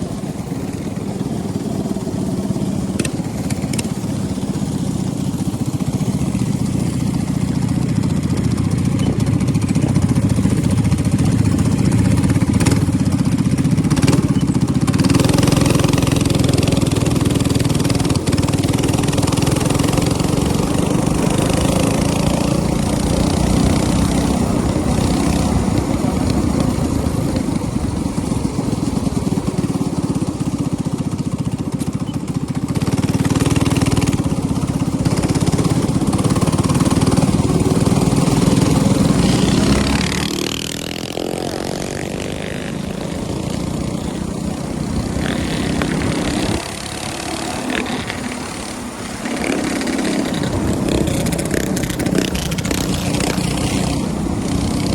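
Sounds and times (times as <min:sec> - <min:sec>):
minibike engine running: 0:00.0 - 0:54.9.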